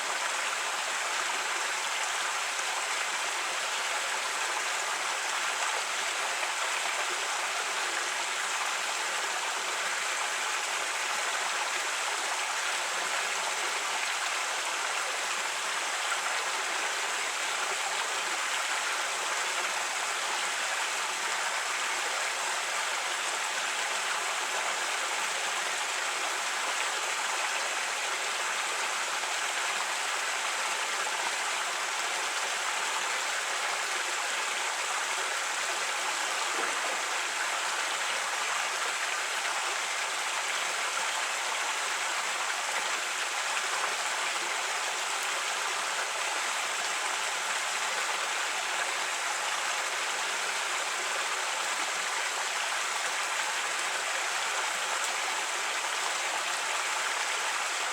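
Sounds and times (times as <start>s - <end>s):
creek flowing over rocks: 0.0s - 57.9s.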